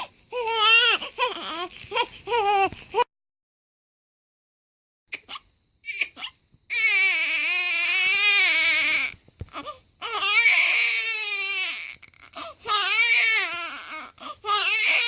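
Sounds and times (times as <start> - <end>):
newborn baby crying: 0.0 - 3.1, 5.1 - 15.0.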